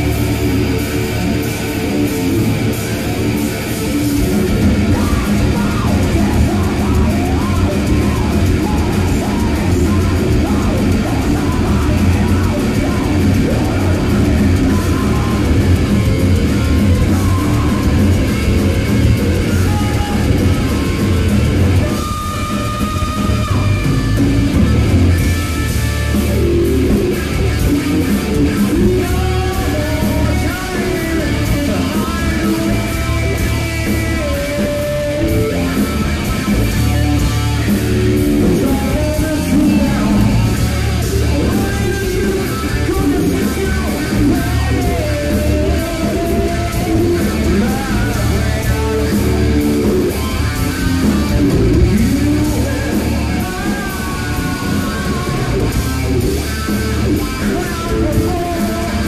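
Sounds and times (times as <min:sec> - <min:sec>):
hard rock band playing: 0:00.0 - 0:59.0
man singing lead vocal: 0:01.4 - 0:25.2, 0:26.1 - 0:59.0.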